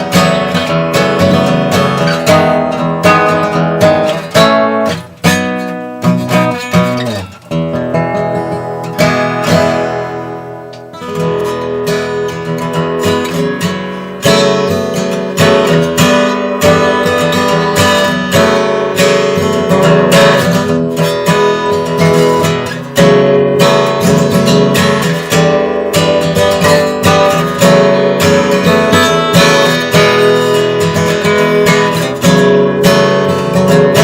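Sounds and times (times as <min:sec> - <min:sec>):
acoustic guitar strummed: 0:00.0 - 0:34.0.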